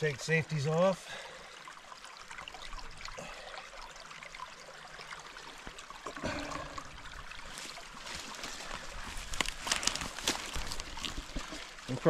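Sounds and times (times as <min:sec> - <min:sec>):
river water trickling: 0:00.0 - 0:12.0.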